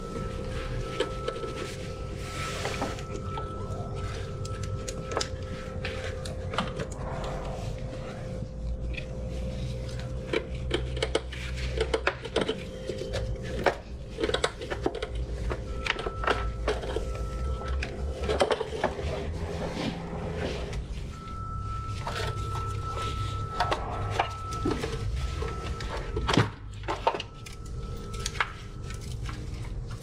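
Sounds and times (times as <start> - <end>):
thin steady tone: 0.0 - 13.7, 14.9 - 30.0
low workshop hum: 0.0 - 30.0.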